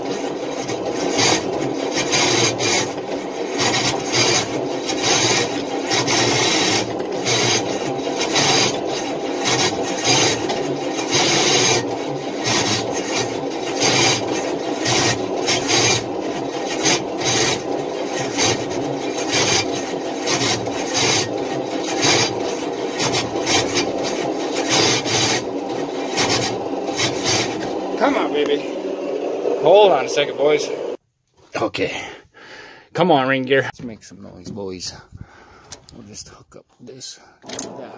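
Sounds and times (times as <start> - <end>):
starter motor cranking engine: 0.0 - 31.0, 37.4 - 37.9.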